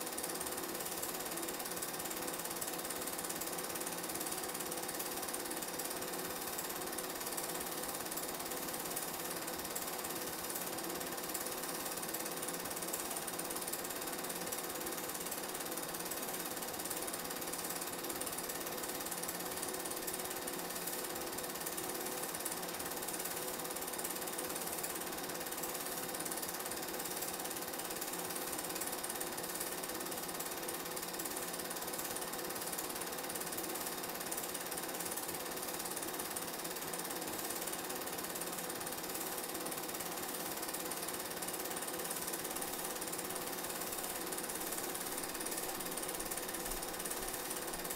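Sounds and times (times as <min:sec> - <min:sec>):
film projector whirr and clatter: 0:00.0 - 0:47.9.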